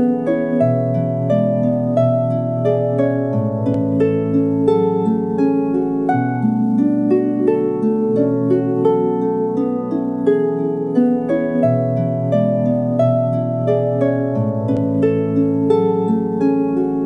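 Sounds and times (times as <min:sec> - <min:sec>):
lyre music: 0:00.0 - 0:17.0.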